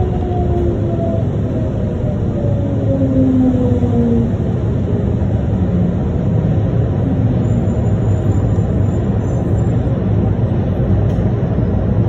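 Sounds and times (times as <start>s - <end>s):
train car rumbling on guideway: 0.0s - 12.0s.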